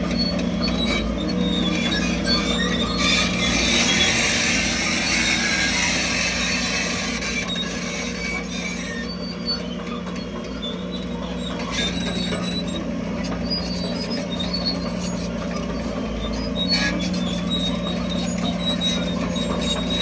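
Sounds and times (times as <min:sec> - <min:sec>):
bulldozer diesel engine running: 0:00.0 - 0:20.0
track squeaks and clanks: 0:00.0 - 0:20.0.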